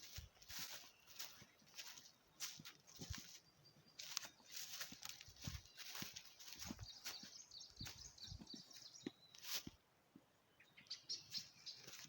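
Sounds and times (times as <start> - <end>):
small bird chirping: 0.6 - 9.7, 10.6 - 12.0.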